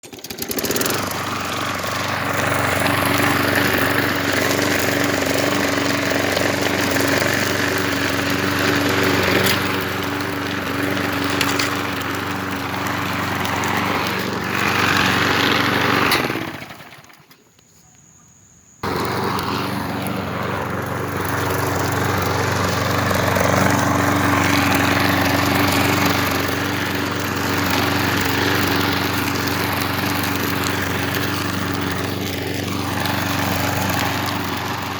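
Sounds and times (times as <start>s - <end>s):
lawn mower engine running: 0.0s - 17.5s, 18.8s - 34.9s.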